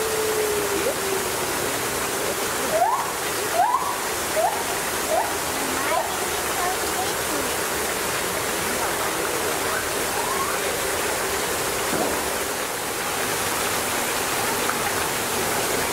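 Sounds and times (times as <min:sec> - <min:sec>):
rushing running water: 0:00.0 - 0:15.9.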